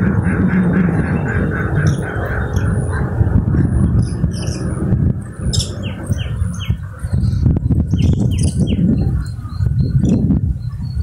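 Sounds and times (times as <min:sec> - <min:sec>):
birds chirping: 0:00.0 - 0:11.0
loud low rumble: 0:00.0 - 0:11.0.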